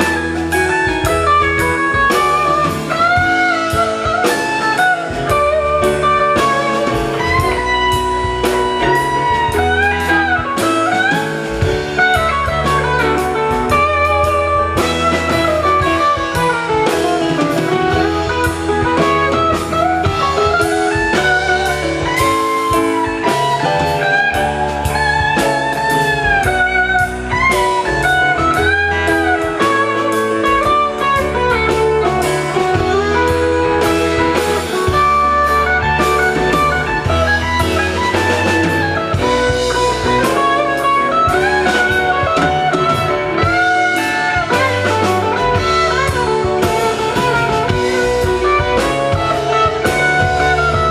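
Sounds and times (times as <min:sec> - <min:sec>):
bass guitar: 0:00.0 - 0:50.9
drum kit: 0:00.0 - 0:50.9
lead electric guitar bending notes: 0:00.0 - 0:50.9.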